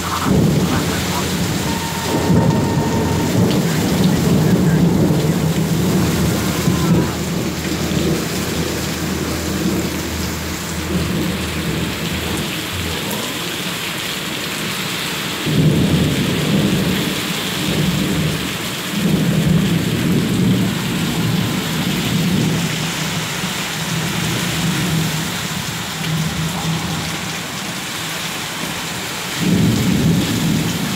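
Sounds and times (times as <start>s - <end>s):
low rumbles of thunder: 0.0s - 13.8s, 15.4s - 27.6s, 29.4s - 30.9s
heavy rain pouring: 0.0s - 30.9s.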